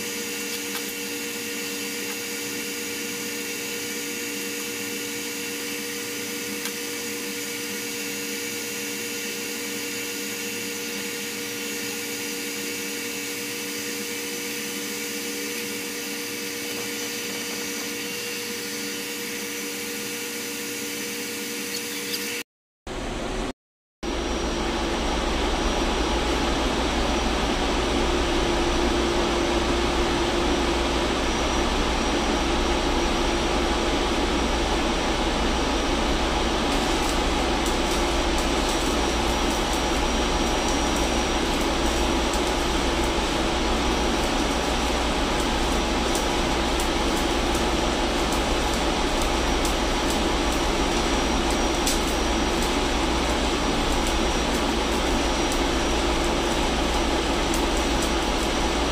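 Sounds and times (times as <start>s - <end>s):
arc welder crackling: 0.0s - 22.4s, 24.1s - 58.9s
engine room machinery noise: 0.0s - 58.9s.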